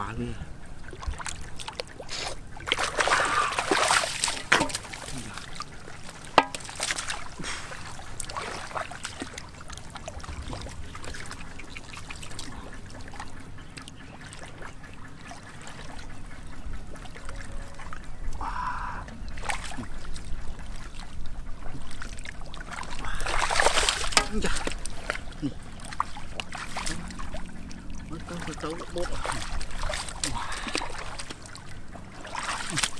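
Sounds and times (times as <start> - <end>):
water splashing and trickling: 0.0 - 32.9.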